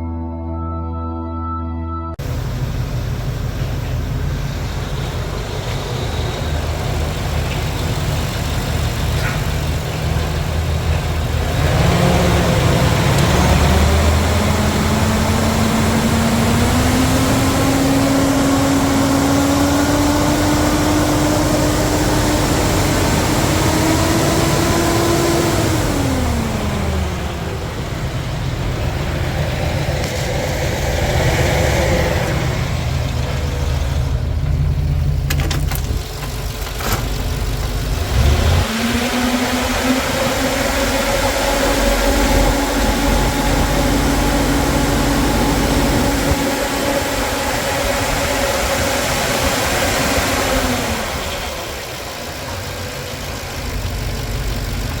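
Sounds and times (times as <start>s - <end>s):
engine revving and idling: 2.2s - 55.0s.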